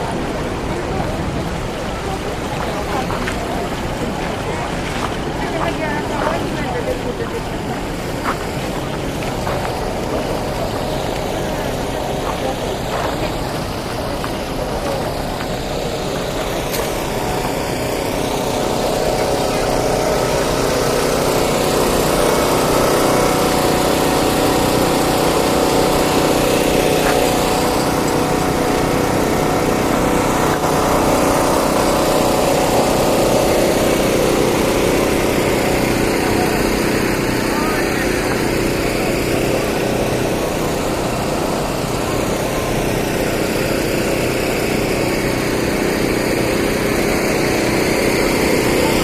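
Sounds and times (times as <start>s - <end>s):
truck diesel engine running: 0.0s - 49.0s.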